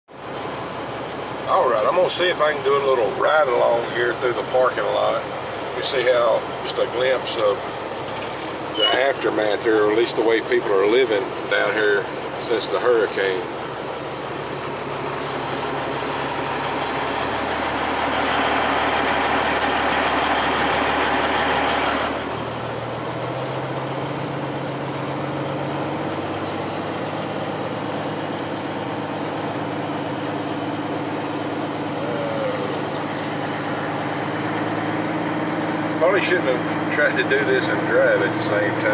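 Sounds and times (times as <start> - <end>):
vehicle engine running: 0.1 - 38.9.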